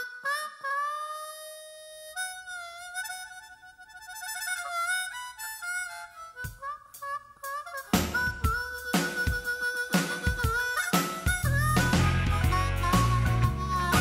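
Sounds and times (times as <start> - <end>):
blues harmonica: 0.0 - 14.0.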